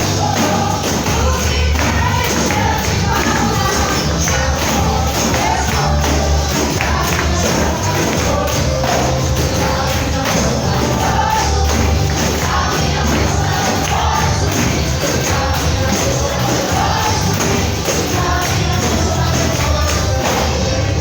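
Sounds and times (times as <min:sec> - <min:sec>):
bass line: 0:00.0 - 0:21.0
church band worship music: 0:00.0 - 0:21.0
percussion: 0:00.0 - 0:21.0.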